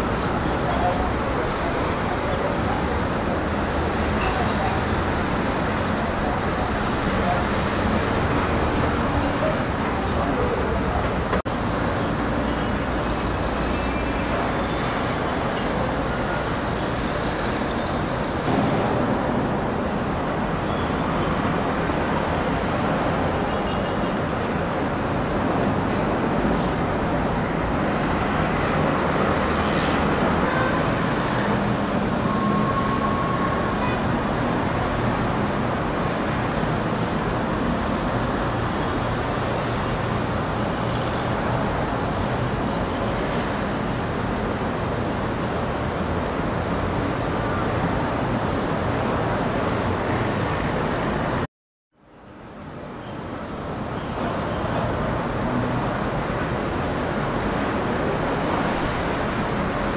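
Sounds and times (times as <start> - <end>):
city traffic rumble: 0.0 - 59.9.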